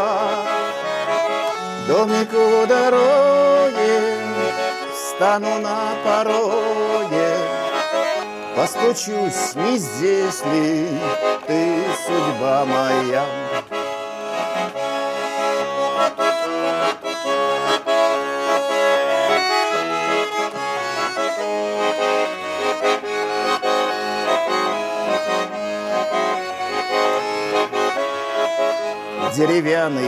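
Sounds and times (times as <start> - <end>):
button accordion playing: 0.0 - 30.0.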